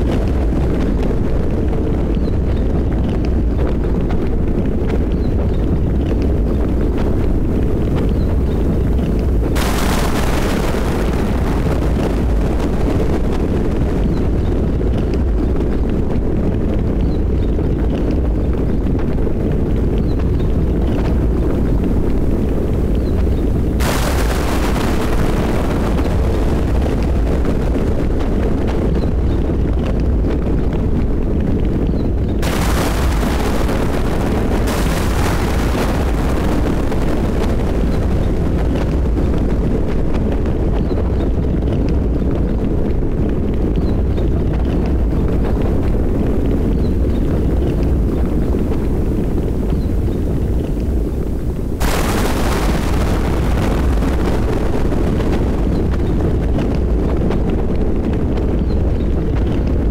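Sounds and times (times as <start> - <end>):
rain: 0.0 - 59.9
thunder rumbling: 0.0 - 59.9.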